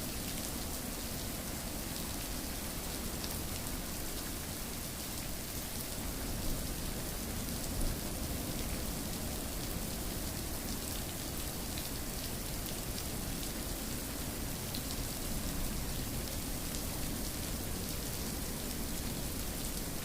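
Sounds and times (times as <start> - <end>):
rain pattering: 0.1 - 20.0.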